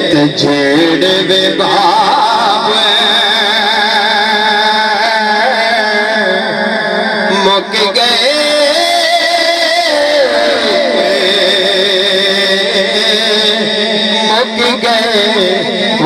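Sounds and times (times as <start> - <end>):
man singing: 0.0 - 16.0
steady drone: 0.0 - 16.0.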